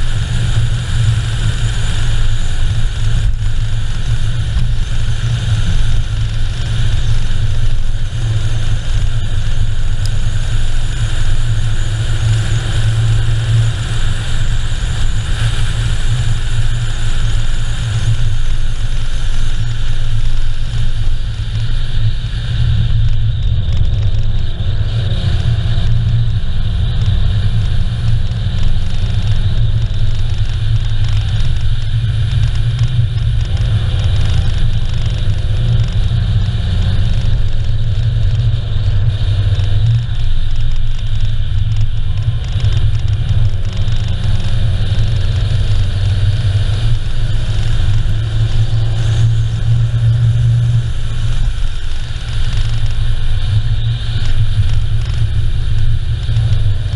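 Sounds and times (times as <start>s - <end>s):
car engine drone: 0.0s - 56.9s
tyre and road noise: 0.0s - 56.9s.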